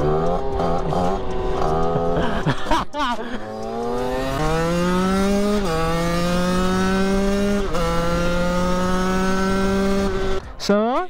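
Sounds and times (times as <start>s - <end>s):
moped engine accelerating: 0.0s - 10.9s.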